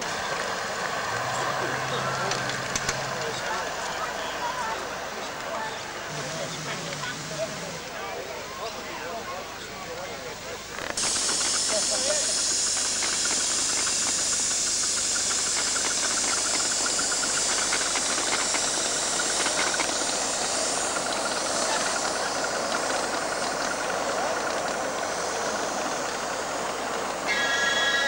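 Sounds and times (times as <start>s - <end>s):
steam locomotive hissing: 0.0s - 28.0s
train clicking on track: 0.0s - 28.0s.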